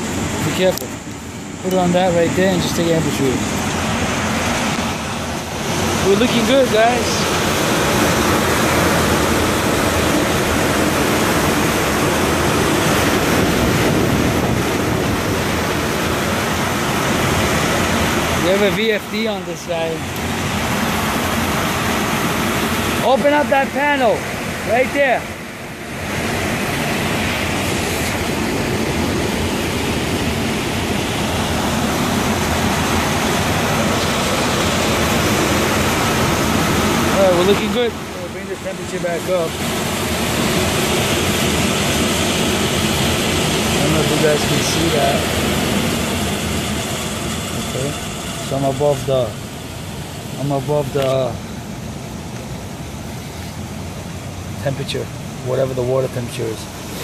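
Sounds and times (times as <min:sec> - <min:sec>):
water falling: 0:00.0 - 0:51.6
cooling tower fan rushing: 0:00.0 - 0:57.0.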